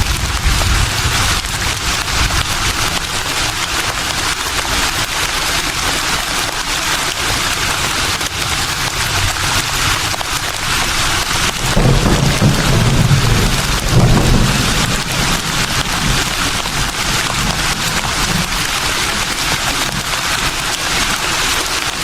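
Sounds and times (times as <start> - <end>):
leaves rustling in breeze: 0.0 - 22.0.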